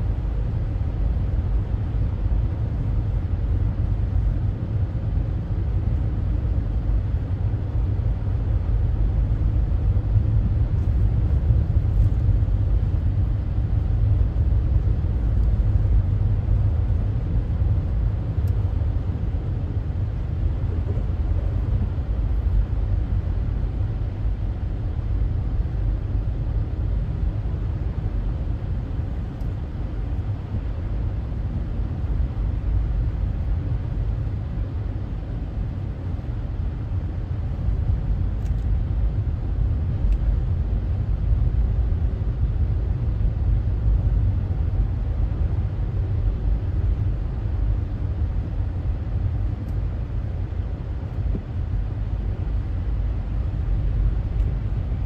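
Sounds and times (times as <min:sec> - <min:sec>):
vehicles driving on snowy highway: 0:00.0 - 0:55.0.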